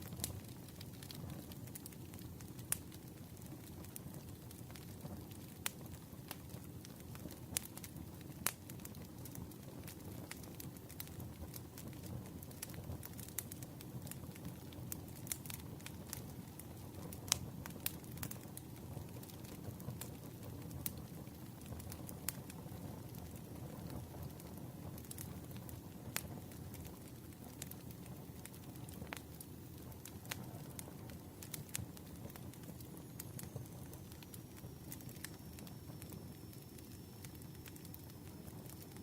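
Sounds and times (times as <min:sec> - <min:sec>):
campfire flames rushing: 0:00.0 - 0:39.0
fire crackling and popping: 0:00.0 - 0:39.0.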